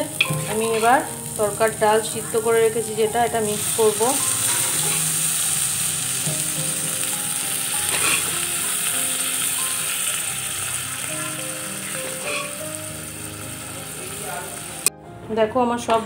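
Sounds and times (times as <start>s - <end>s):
food sizzling in a pan: 0.0s - 14.9s
soft background music: 0.0s - 16.0s.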